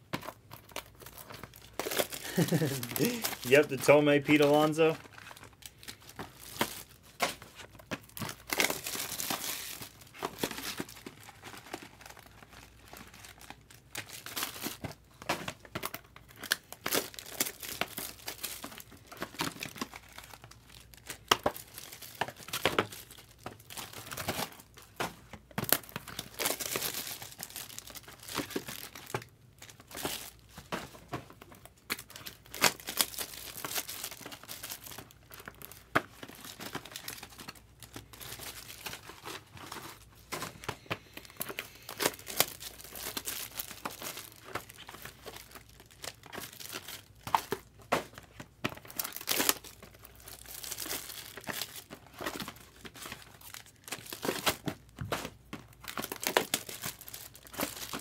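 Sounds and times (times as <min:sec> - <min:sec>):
foil wrappers crinkling and tearing: 0:00.0 - 0:58.0.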